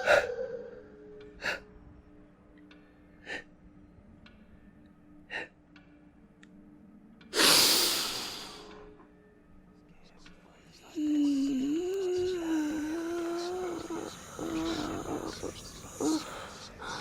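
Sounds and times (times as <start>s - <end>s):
faint musical drone: 0.0s - 17.0s.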